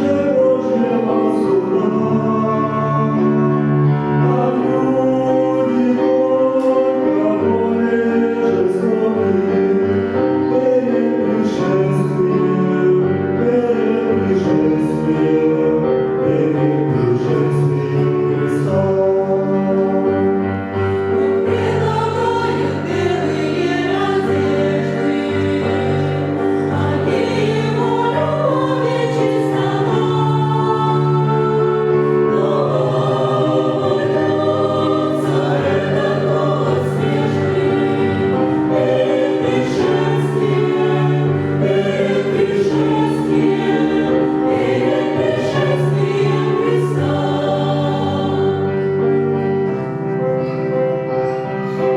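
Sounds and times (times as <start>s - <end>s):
church choir singing a hymn: 0.0s - 51.9s.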